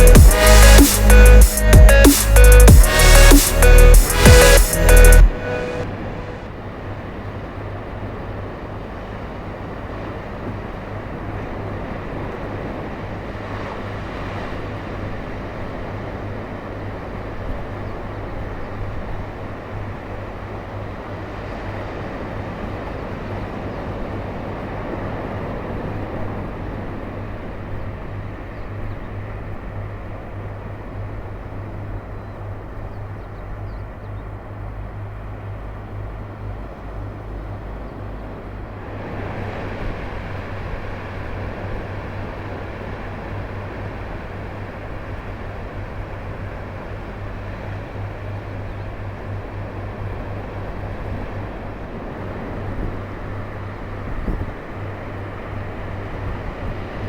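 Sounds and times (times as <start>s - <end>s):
low steady hum: 0.0s - 9.1s, 15.8s - 57.0s
ocean surf: 0.0s - 32.6s, 34.4s - 57.0s
wind: 0.0s - 57.0s.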